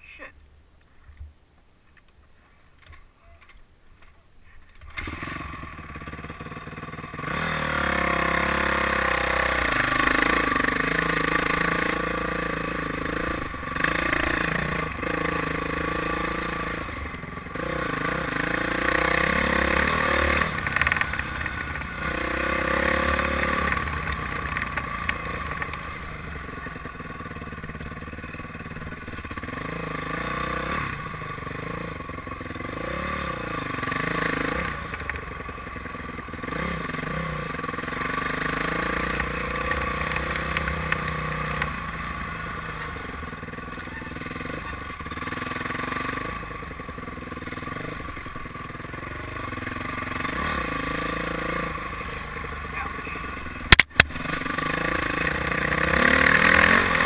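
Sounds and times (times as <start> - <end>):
dirt bike engine revving: 4.8 - 57.0.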